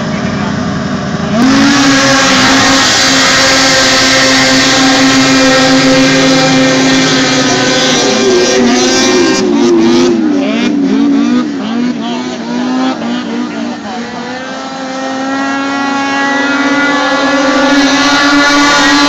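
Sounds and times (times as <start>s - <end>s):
snowmobile engines at full throttle: 0.0s - 19.0s.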